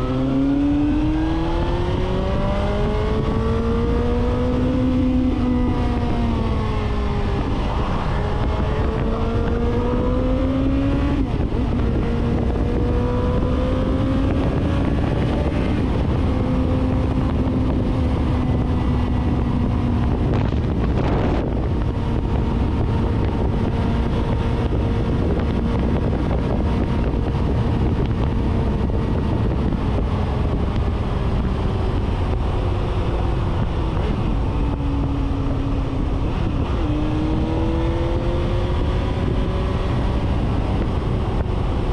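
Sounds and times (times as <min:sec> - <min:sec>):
motorcycle engine accelerating: 0:00.0 - 0:41.9
wind noise on microphone: 0:00.0 - 0:41.9.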